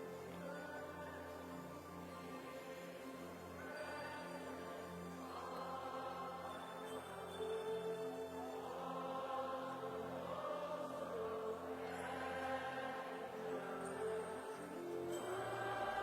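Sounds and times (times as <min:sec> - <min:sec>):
soft worship music with choir: 0:00.0 - 0:16.0.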